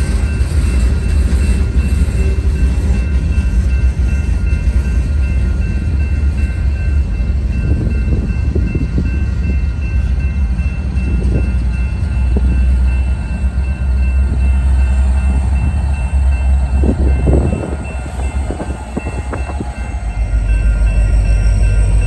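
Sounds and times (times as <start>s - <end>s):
train cars rumbling past: 0.0s - 22.0s.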